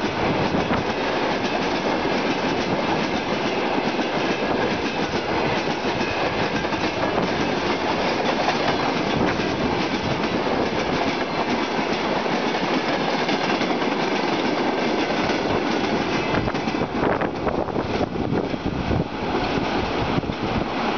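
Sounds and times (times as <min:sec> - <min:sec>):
train wheels rolling on rails: 0:00.0 - 0:20.9.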